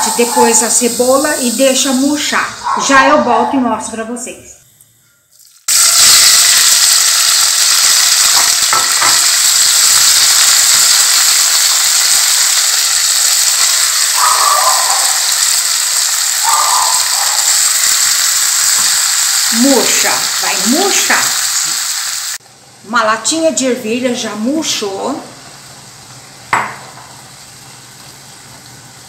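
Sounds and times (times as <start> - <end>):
vegetables sizzling in oil: 0.0 - 3.1, 5.2 - 22.4, 23.0 - 29.0.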